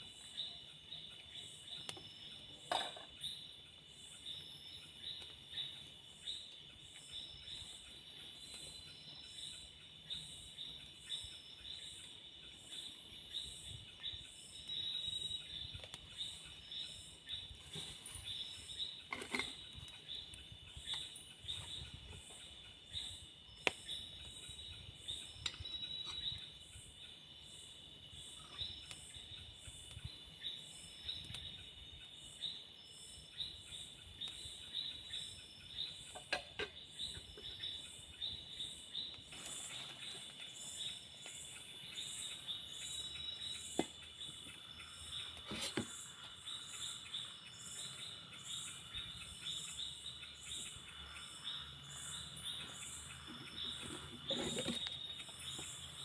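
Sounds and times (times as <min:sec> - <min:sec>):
insects droning: 0:00.0 - 0:56.0
pulsing insect call: 0:00.0 - 0:56.0.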